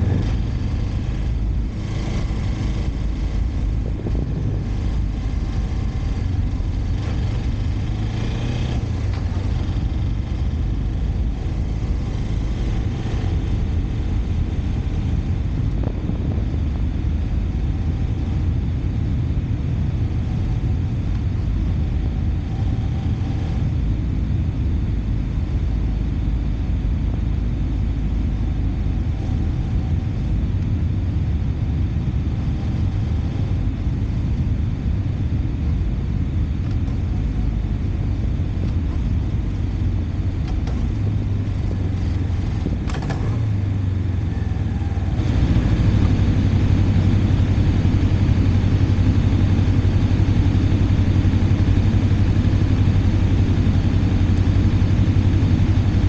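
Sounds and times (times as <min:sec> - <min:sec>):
motorcycle engine: 0:00.0 - 0:25.6, 0:27.4 - 0:56.0
road and wind rumble: 0:00.0 - 0:56.0.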